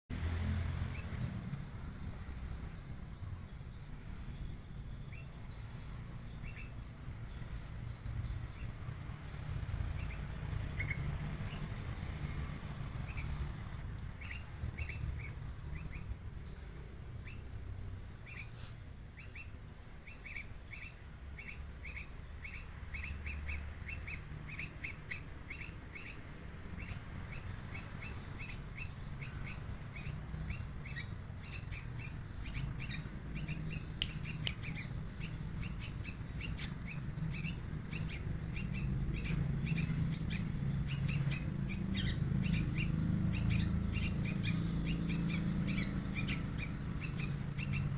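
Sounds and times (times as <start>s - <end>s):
young bird chirping: 2.0s - 47.9s.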